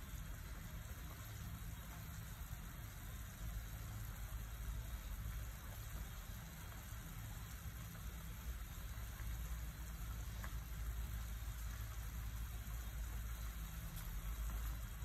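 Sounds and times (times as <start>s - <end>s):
soup boiling and bubbling: 0.0s - 15.0s.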